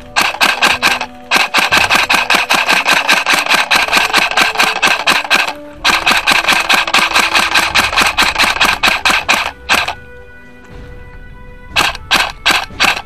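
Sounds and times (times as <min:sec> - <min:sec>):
airsoft rifle firing full auto: 0:00.0 - 0:10.0, 0:11.7 - 0:13.0.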